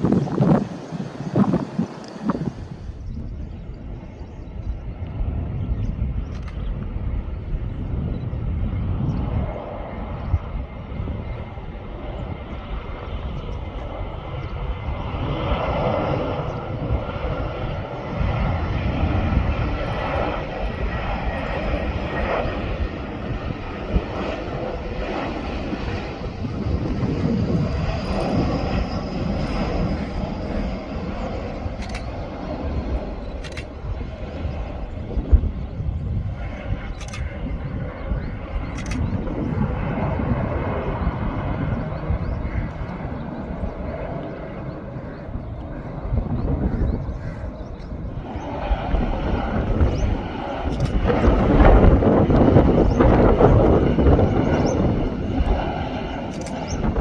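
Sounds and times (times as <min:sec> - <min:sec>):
jet engine rumble: 0:00.0 - 0:57.0.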